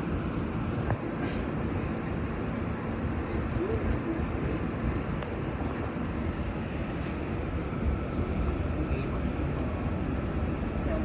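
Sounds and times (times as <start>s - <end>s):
subway car rumbling on track: 0.0s - 11.0s.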